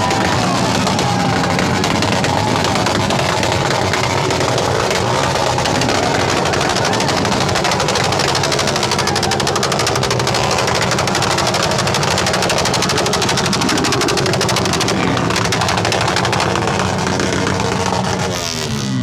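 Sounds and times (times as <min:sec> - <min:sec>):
loud vehicle exhaust revving: 0:00.0 - 0:19.0.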